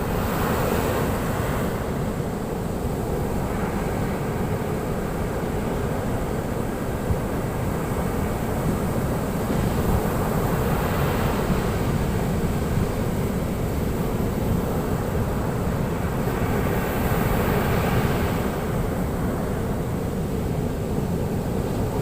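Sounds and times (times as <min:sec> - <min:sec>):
waves breaking on a beach: 0:00.0 - 0:22.0.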